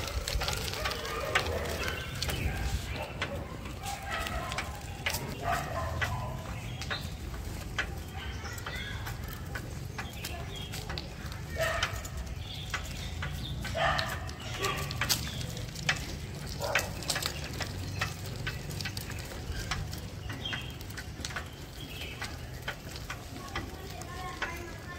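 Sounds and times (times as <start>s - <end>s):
low street rumble: 0.0s - 24.9s
scattered clicks and crackles: 0.0s - 24.9s.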